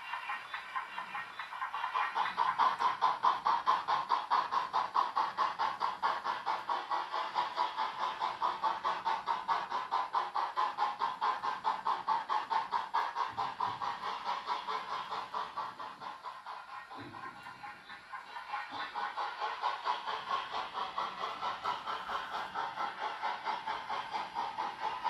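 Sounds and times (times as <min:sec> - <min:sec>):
model steam locomotive chuffing: 0:00.0 - 0:25.0.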